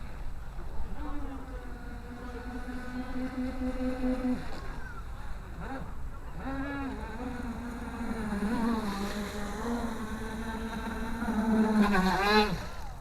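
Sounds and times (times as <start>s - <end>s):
electric motor whining: 0.8s - 13.0s.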